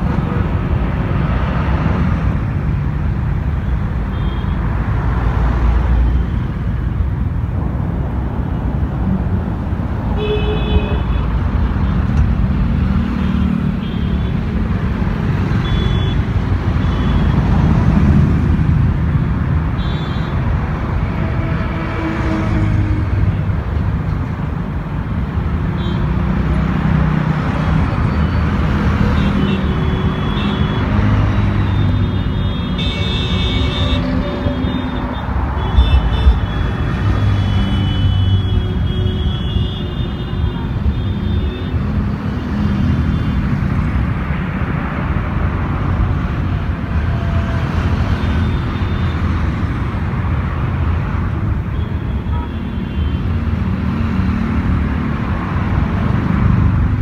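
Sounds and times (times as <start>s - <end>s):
engine and tyre rumble: 0.0s - 57.0s
vehicles driving past: 0.0s - 57.0s.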